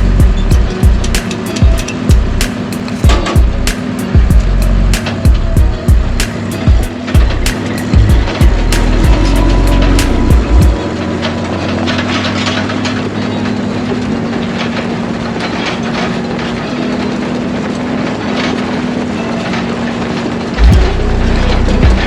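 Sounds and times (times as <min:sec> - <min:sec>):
farm machinery engine hum: 0:00.0 - 0:22.0.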